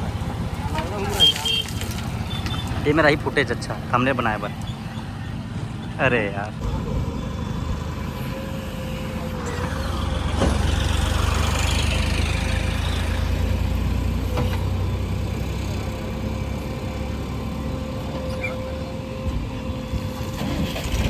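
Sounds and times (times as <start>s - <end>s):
heavy diesel engine running: 1.8s - 21.0s.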